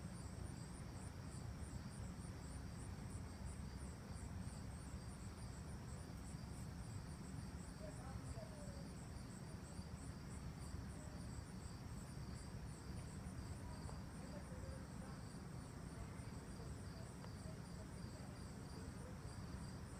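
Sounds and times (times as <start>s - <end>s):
crickets chirping: 0.0s - 19.9s.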